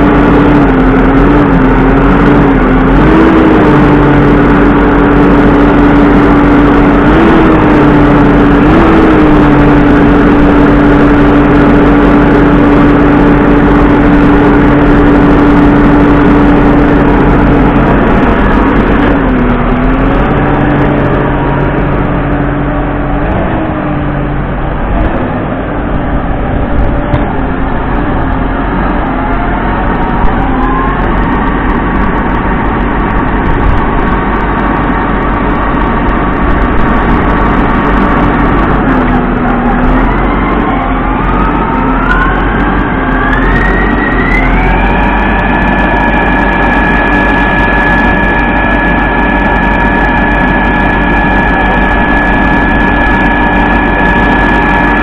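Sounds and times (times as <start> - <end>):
engine running: 0.0 - 55.0
higher engine note climbing: 0.0 - 55.0.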